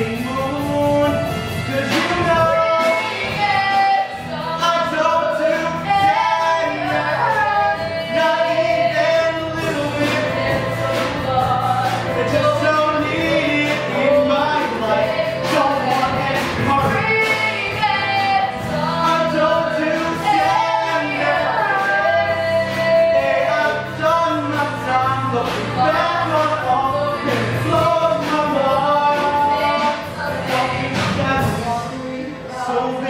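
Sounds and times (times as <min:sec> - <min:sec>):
instrumental accompaniment: 0:00.0 - 0:33.0
man and woman singing: 0:00.0 - 0:33.0.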